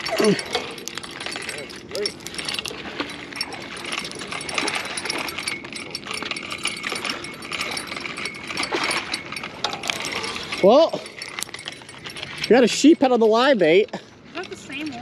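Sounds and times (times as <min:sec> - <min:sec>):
fishing reel clicking and whirring: 0:00.0 - 0:15.0.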